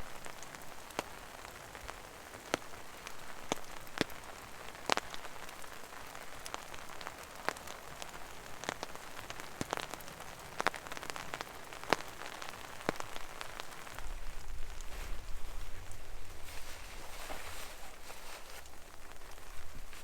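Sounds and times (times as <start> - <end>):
heavy raindrops tapping: 0.0 - 17.3
steady rain: 0.0 - 20.0.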